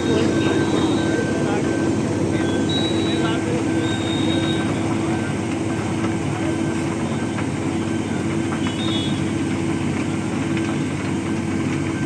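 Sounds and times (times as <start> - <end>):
heavy machinery engine droning: 0.0 - 12.0.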